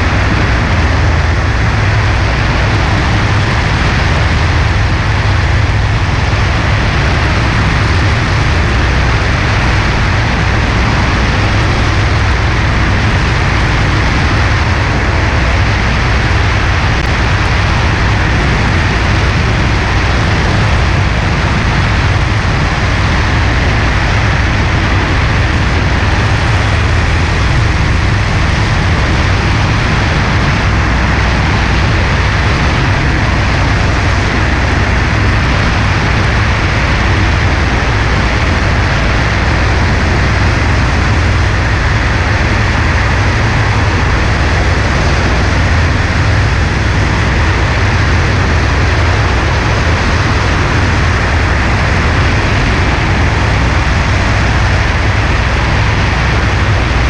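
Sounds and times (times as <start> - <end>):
propeller aircraft engine drone: 0.0 - 57.0
wind rush: 0.0 - 57.0.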